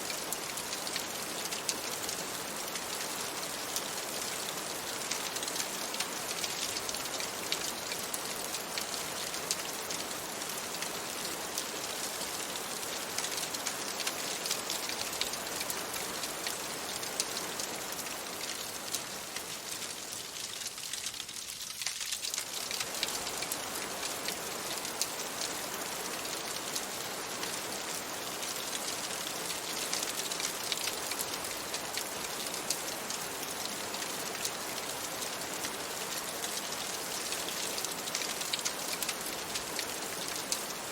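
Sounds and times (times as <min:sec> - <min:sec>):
rain pattering on a window: 0:00.0 - 0:40.9.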